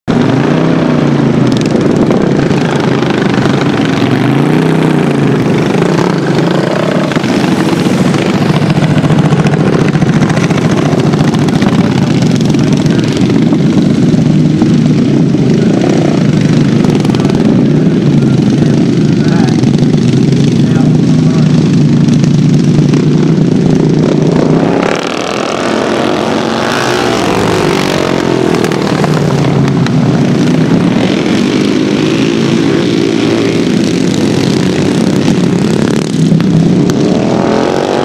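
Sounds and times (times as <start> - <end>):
small engines at full throttle: 0.1 - 38.0.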